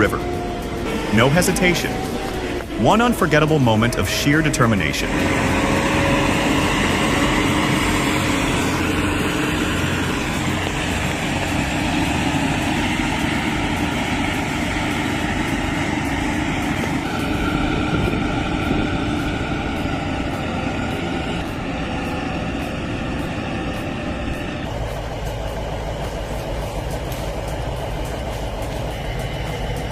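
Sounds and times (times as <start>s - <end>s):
tractor engine under load: 0.0s - 29.9s.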